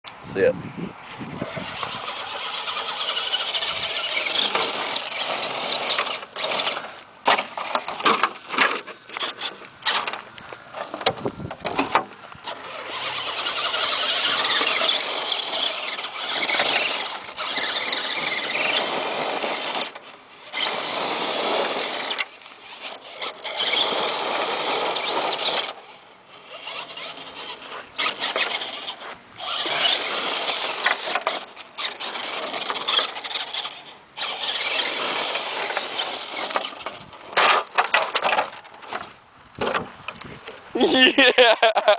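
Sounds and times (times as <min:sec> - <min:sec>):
toy truck motor whining: 0:01.2 - 0:39.1.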